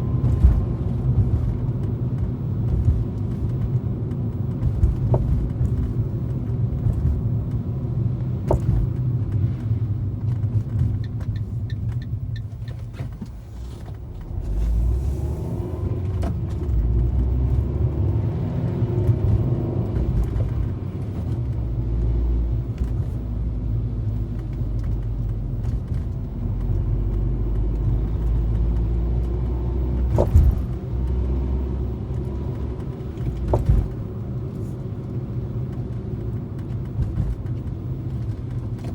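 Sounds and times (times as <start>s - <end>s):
sharp clicks under car: 0.0s - 14.4s, 16.0s - 38.9s
engine and tyres rumbling: 0.0s - 38.9s.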